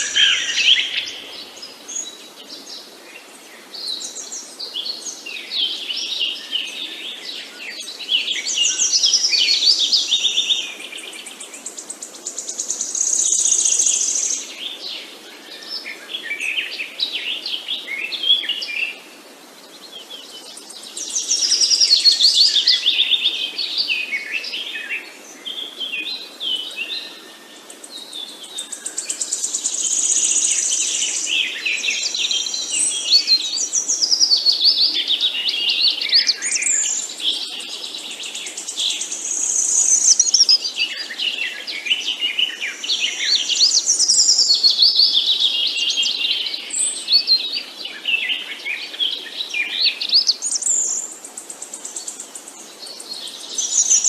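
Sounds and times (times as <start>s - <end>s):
faint background hiss: 0.0s - 54.0s
songbirds singing and chirping: 0.0s - 54.0s.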